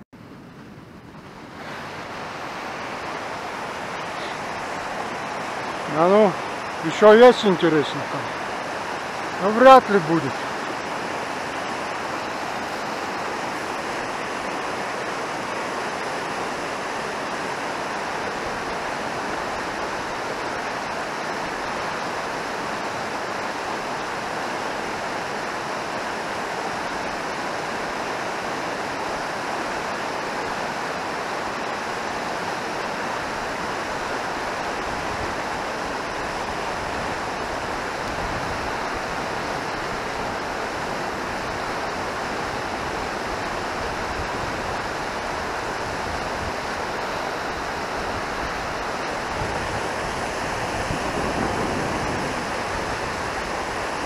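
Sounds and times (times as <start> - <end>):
river rushing through rapids: 0.2 - 54.0.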